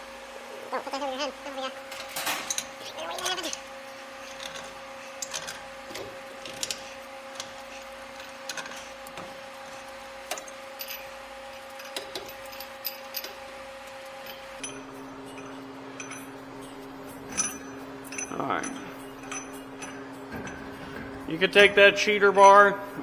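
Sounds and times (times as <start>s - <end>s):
steady mechanical hum: 0.0s - 23.0s
metal tools clinking: 1.2s - 23.0s.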